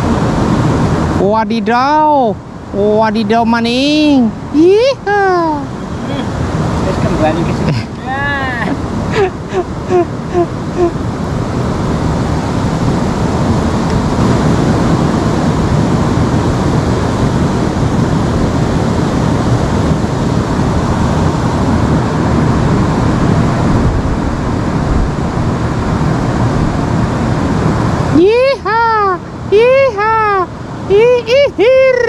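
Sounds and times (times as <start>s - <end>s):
river water rushing: 0.0s - 2.8s, 3.5s - 31.9s.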